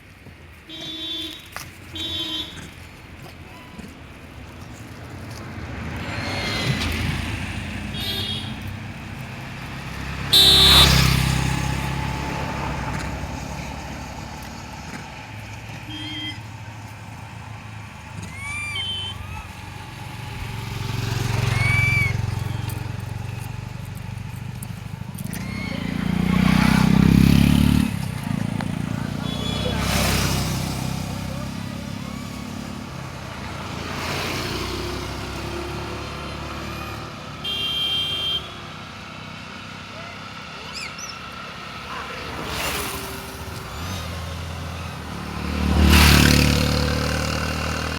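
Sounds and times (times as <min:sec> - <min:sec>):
vehicle engine running: 0:01.8 - 0:47.9.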